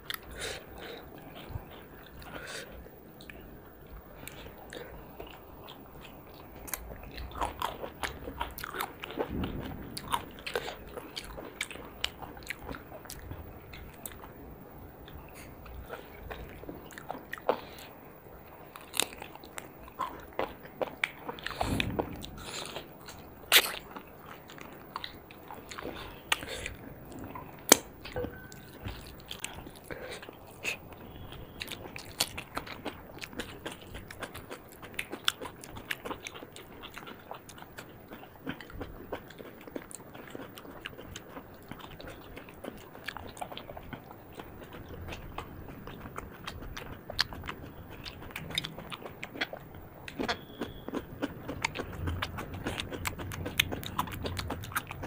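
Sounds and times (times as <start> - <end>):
food crunching: 0.0 - 55.0
people chewing food: 0.0 - 55.0.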